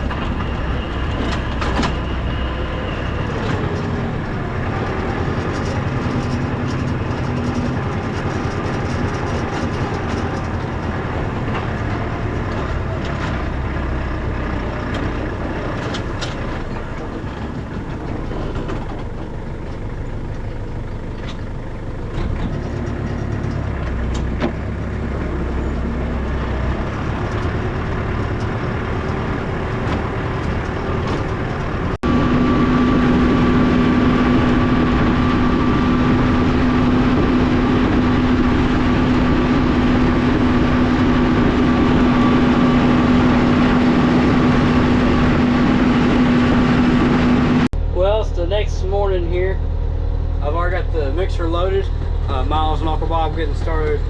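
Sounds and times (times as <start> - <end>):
engine whine: 0.0 - 54.0
steady tractor engine: 0.0 - 54.0
tractor engine rumble: 0.0 - 54.0.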